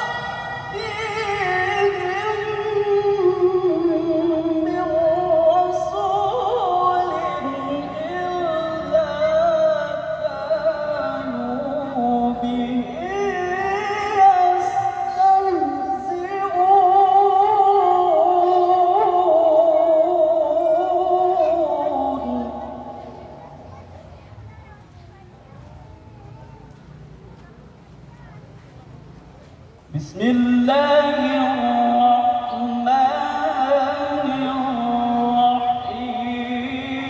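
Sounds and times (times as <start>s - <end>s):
man chanting through loudspeakers: 0.0s - 23.4s, 29.9s - 37.0s.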